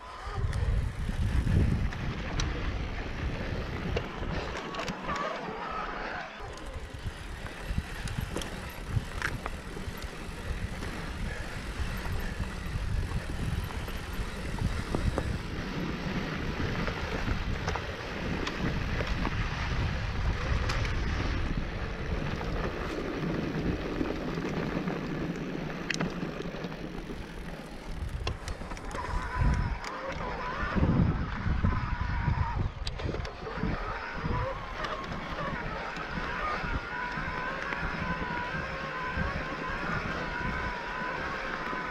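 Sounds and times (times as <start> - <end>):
wind buffeting microphone: 0.0 - 5.2, 6.4 - 41.9
bike tyre rolling on dirt: 0.0 - 41.9.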